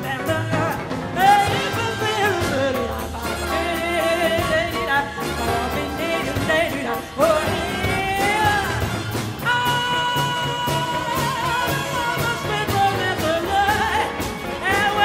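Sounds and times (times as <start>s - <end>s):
swinging big band: 0.0s - 15.0s.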